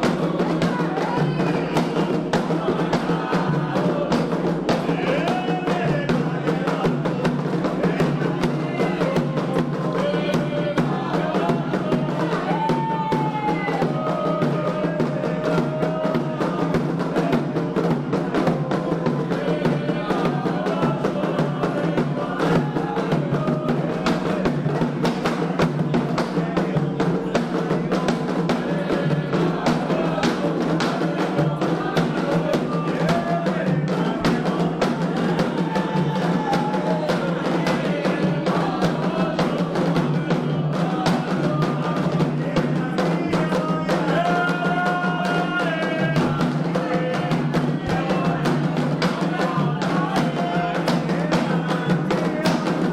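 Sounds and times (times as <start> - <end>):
hand drums in fast rhythm: 0.0 - 52.9
voices singing: 0.0 - 52.9.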